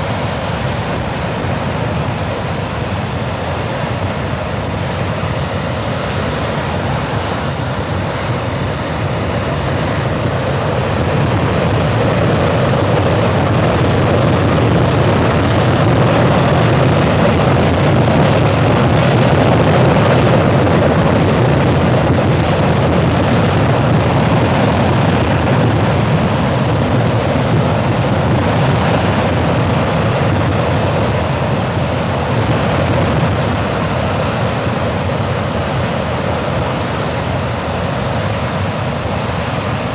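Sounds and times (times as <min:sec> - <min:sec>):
jet engine roaring: 0:00.0 - 0:39.9.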